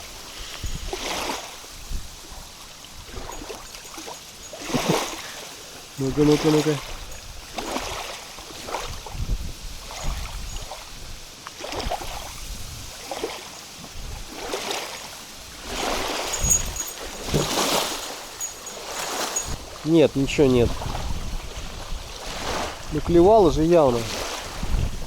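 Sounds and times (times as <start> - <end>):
wind buffeting microphone: 0.0 - 3.7, 4.3 - 13.2, 13.8 - 25.0
small waves lapping against boat: 0.0 - 25.0.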